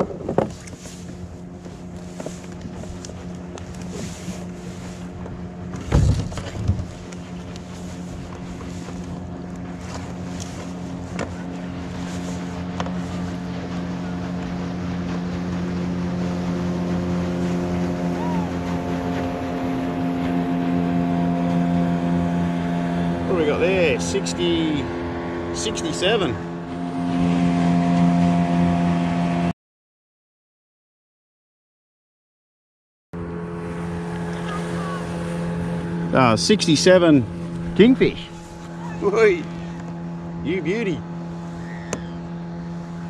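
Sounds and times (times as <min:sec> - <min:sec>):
motorboat engine running: 0:00.0 - 0:29.5, 0:33.2 - 0:43.0.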